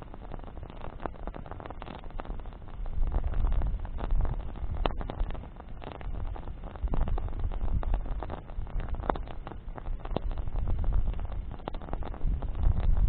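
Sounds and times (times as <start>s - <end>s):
campfire crackling: 0.0s - 13.0s
sharp pops and snaps: 0.0s - 13.0s.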